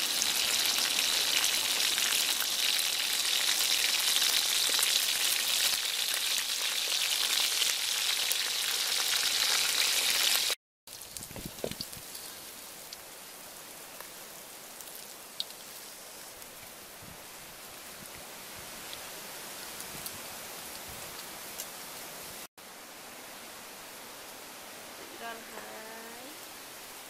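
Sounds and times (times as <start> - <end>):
crabs deep-frying in oil: 0.0 - 21.8.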